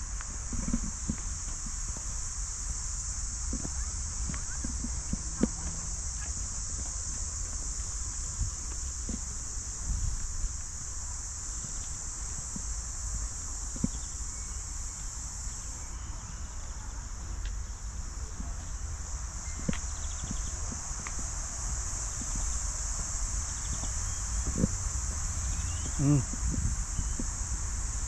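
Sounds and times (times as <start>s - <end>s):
chorus of insects: 0.0s - 28.0s.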